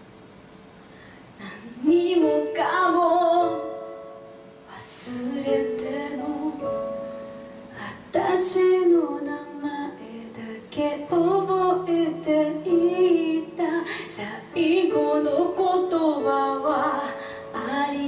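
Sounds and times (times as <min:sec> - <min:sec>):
woman singing ballad: 0:01.4 - 0:03.9, 0:04.7 - 0:07.0, 0:07.6 - 0:18.0.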